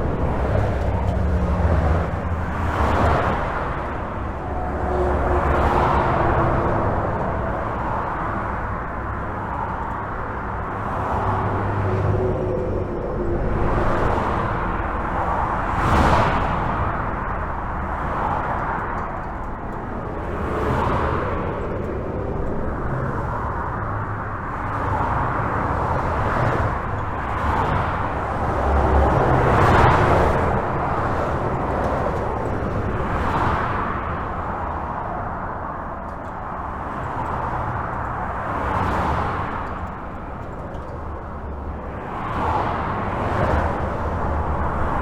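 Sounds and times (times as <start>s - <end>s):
highway traffic rushing: 0.0s - 45.0s
vehicles passing: 0.0s - 45.0s.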